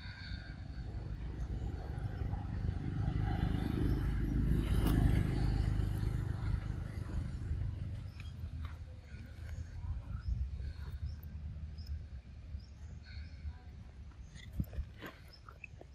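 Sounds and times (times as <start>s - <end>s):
passing motor vehicle rumble: 0.0s - 15.5s.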